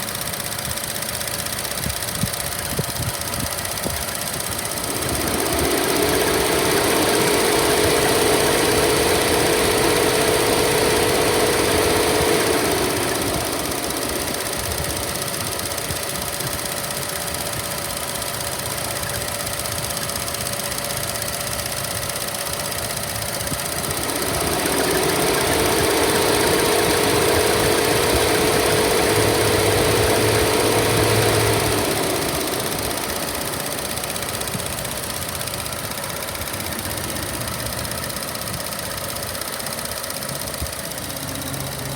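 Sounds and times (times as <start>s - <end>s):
car engine revving and idling: 0.0s - 41.9s.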